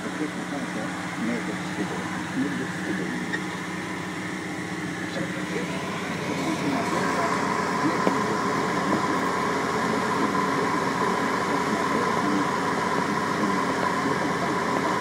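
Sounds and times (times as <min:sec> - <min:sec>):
steady high whine: 0:00.0 - 0:15.0
tractor diesel engine under load: 0:00.0 - 0:15.0.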